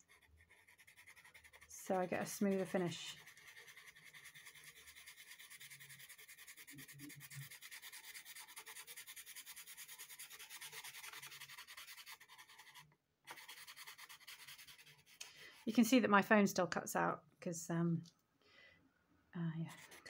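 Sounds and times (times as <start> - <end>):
pencil scratching on paper: 0.0 - 15.9, 19.7 - 20.0.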